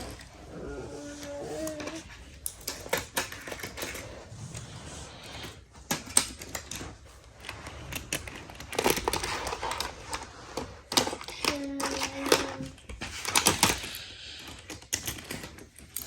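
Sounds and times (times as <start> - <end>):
toy cars and playset clattering: 0.0 - 4.3, 5.3 - 16.0.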